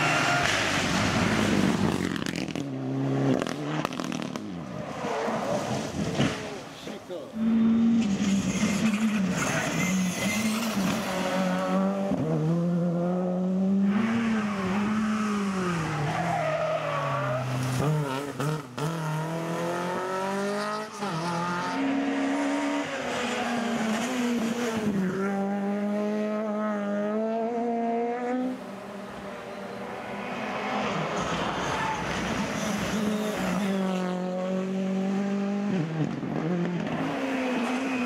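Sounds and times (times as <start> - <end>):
rally car engines at full throttle: 0.0 - 38.0.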